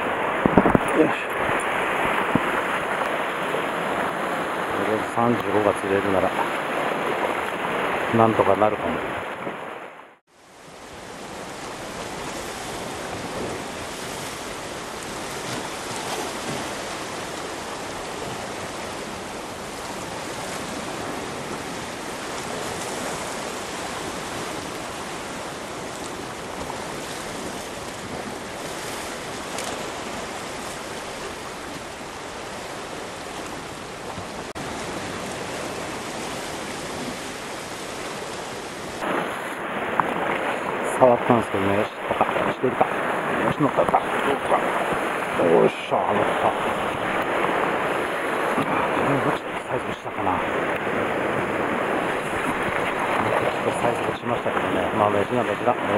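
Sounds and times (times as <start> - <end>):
sea waves washing against rocks: 0.0 - 55.9
wind: 0.0 - 55.9.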